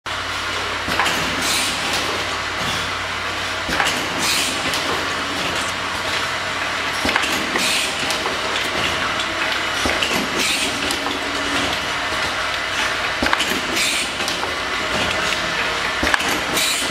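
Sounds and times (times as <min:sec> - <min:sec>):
mechanical clatter of conveyor: 0:00.1 - 0:16.9.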